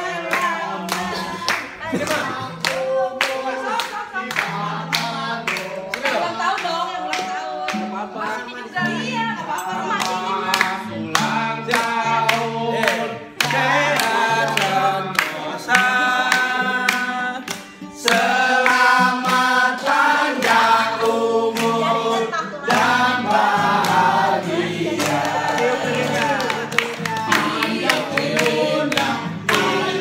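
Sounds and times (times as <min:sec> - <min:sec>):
group of people singing together: 0:00.0 - 0:30.0
hands clapping: 0:00.2 - 0:07.9, 0:09.9 - 0:21.9, 0:22.7 - 0:30.0.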